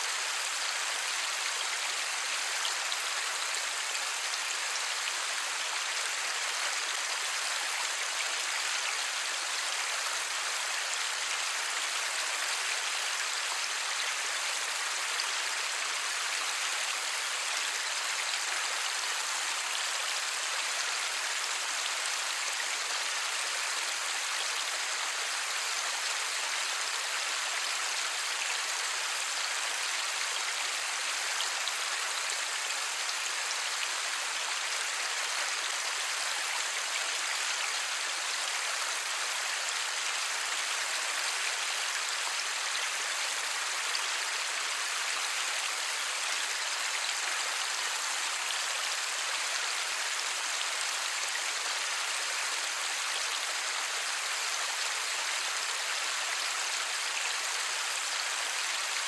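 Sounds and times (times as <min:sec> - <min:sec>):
light rain: 0:00.0 - 0:59.0.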